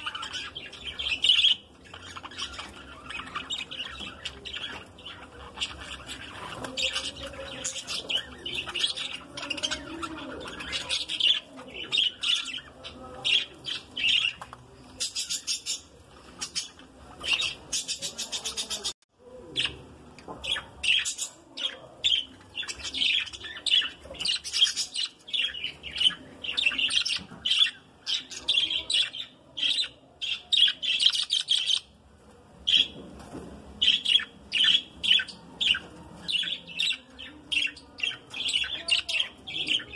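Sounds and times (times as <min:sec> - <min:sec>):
budgerigars chirping and chattering: 0:00.0 - 0:32.0, 0:32.6 - 0:33.0, 0:33.8 - 0:39.9.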